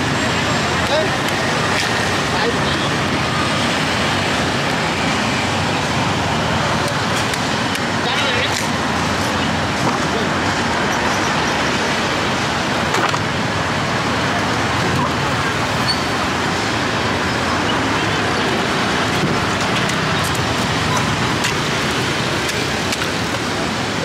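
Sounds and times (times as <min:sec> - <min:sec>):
road traffic hiss: 0:00.0 - 0:24.0.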